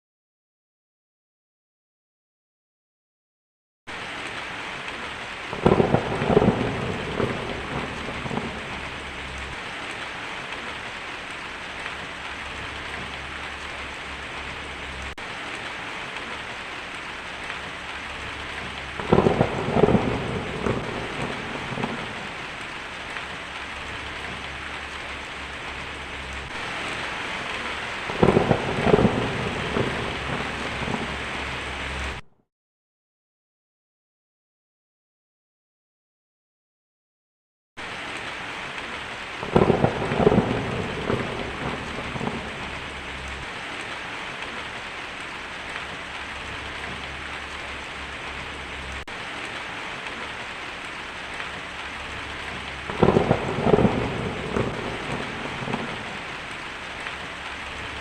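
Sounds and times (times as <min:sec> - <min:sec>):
heavy rain on a tin roof: 0:03.9 - 0:32.2, 0:37.8 - 0:58.0
thunder rumbling: 0:04.7 - 0:32.2, 0:38.8 - 0:58.0.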